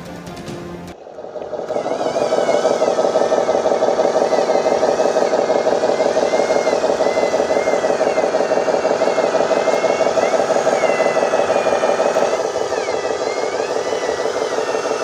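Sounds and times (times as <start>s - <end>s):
model truck motor droning: 0.9s - 15.0s
wavering motor whine: 0.9s - 15.0s.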